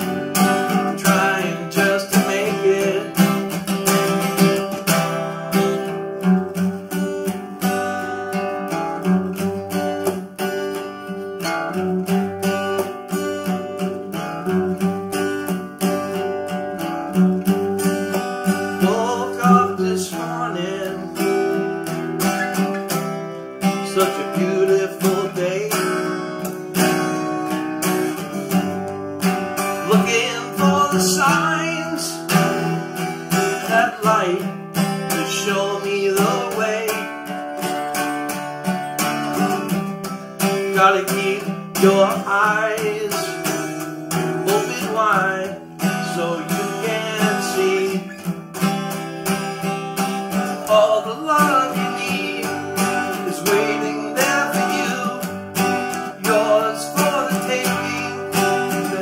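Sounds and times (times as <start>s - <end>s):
acoustic guitars strumming: 0.0s - 59.0s
sliding guitar melody: 0.0s - 59.0s.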